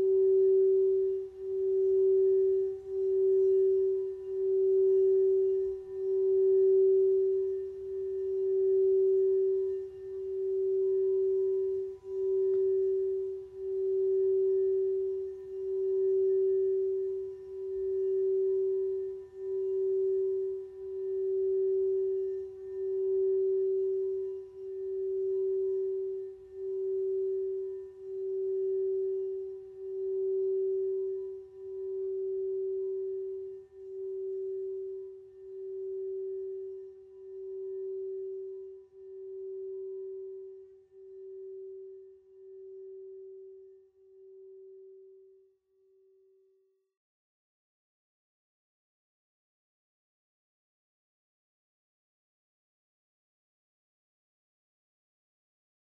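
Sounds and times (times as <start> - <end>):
singing bowl tone: 0.0 - 46.6.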